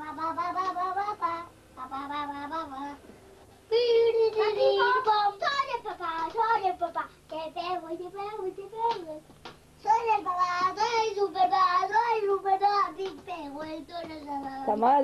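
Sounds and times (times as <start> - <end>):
child singing: 0.0 - 3.0, 3.7 - 9.2, 9.8 - 14.7.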